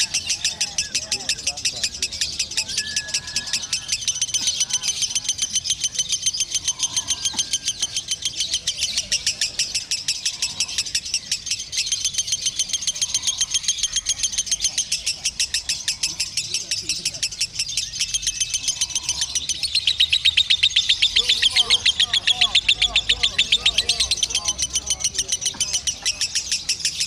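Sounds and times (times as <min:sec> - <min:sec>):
lovebird chattering chirps: 0:00.0 - 0:27.0.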